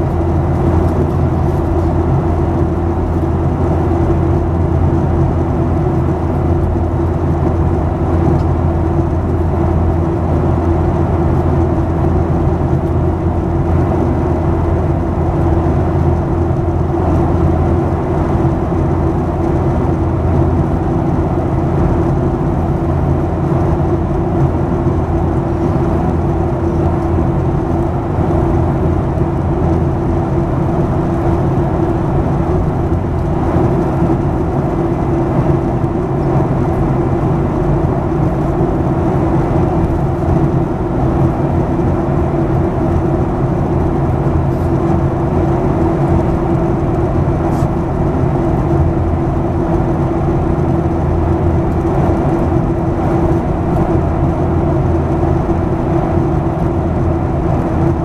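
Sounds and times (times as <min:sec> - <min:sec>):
airliner engines droning in cabin: 0:00.0 - 0:58.0.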